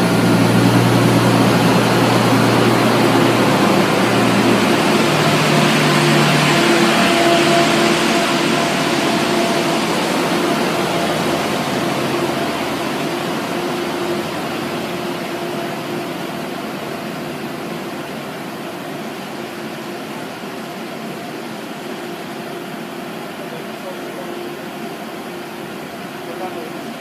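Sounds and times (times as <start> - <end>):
train rumble pulling away: 0.0 - 27.0.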